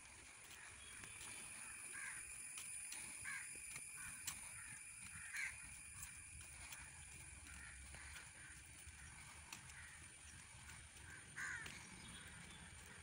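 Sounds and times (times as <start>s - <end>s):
constant high-pitched tone: 0.0s - 13.0s
crows cawing: 0.4s - 13.0s.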